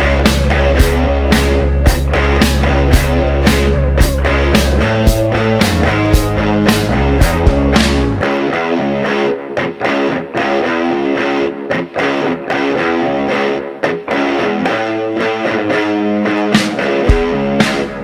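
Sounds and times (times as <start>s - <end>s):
electric guitar rock music: 0.0s - 18.0s.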